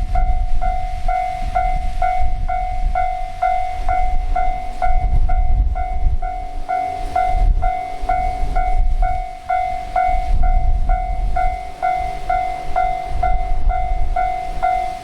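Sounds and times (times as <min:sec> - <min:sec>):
train rumbling through crossing: 0:00.0 - 0:15.0.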